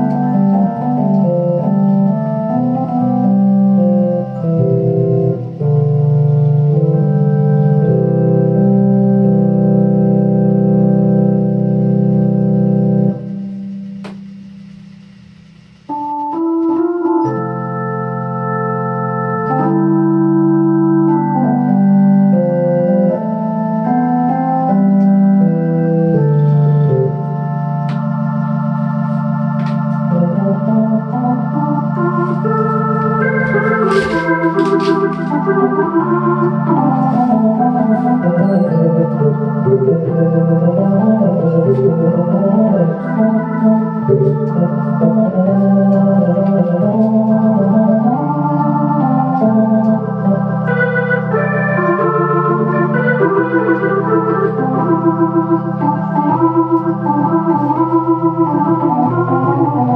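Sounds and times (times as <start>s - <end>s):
electronic organ hymn: 0.0s - 59.9s.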